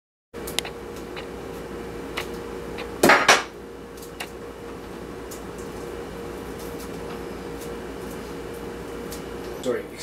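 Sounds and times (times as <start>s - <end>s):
steady hum: 0.4s - 10.0s.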